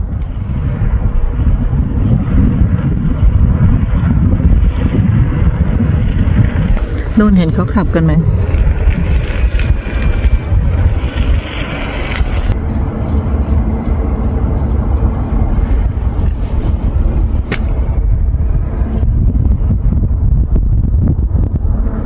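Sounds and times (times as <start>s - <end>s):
distant cars driving: 0.0s - 20.4s
wind rumble on microphone: 0.0s - 22.0s.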